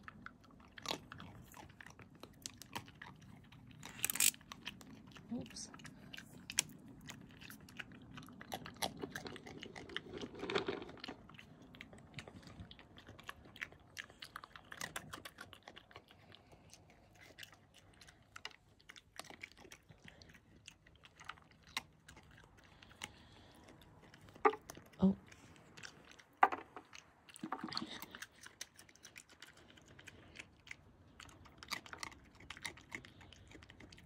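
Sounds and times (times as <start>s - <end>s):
badger chewing and crunching food: 0.0s - 34.0s.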